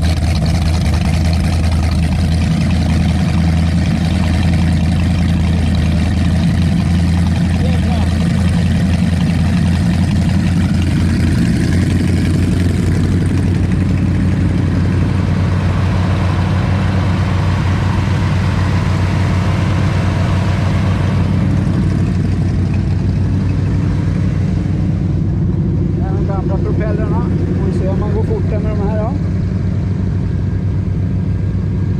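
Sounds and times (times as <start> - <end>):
large engine idling: 0.0 - 31.9.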